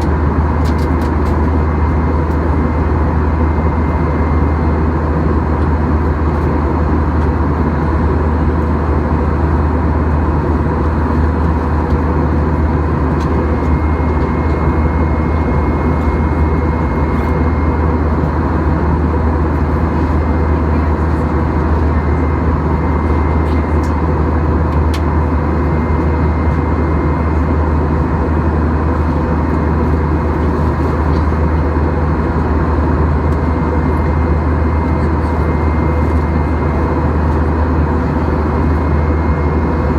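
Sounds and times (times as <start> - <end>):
jet cabin drone: 0.0 - 39.9.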